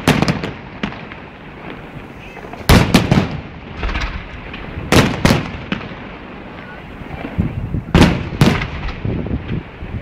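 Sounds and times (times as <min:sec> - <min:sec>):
fireworks bangs: 0:00.0 - 0:10.0
fireworks crackling pops: 0:00.0 - 0:10.0.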